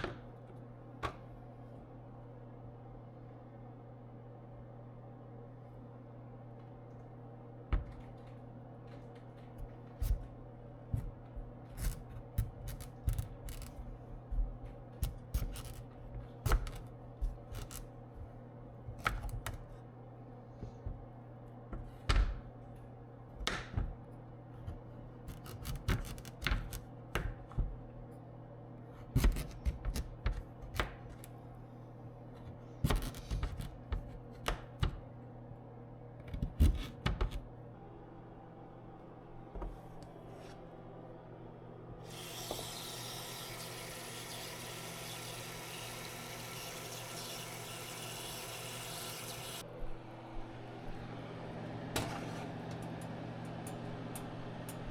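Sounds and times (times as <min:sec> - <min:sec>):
steady low hum: 0:00.0 - 0:42.1, 0:49.6 - 0:54.9.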